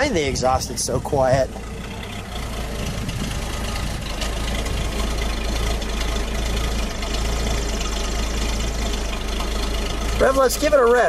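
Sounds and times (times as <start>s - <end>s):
car engine idling at tailpipe: 0.0s - 11.0s.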